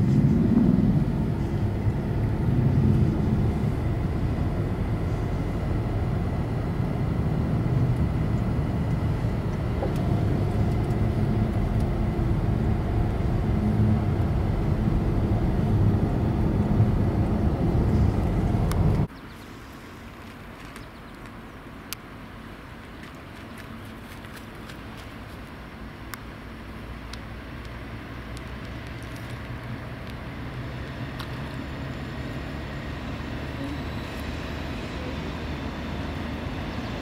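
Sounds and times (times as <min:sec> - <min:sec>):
car cabin road and engine rumble: 0:00.0 - 0:37.0.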